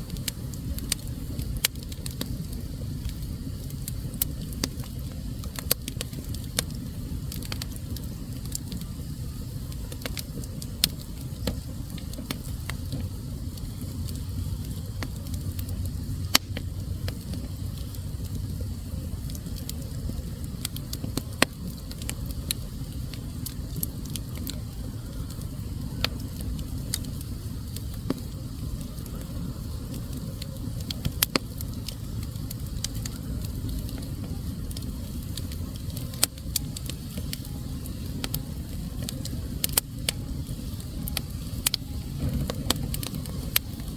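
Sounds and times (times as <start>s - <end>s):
fire flames rumbling: 0.0s - 43.9s
logs crackling and popping: 0.0s - 43.9s.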